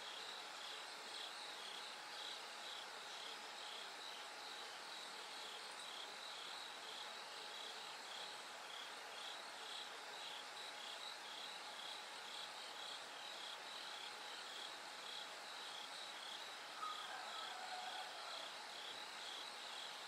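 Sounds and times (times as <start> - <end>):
lower insect call: 0.0 - 20.0
crickets chirping: 0.1 - 20.0.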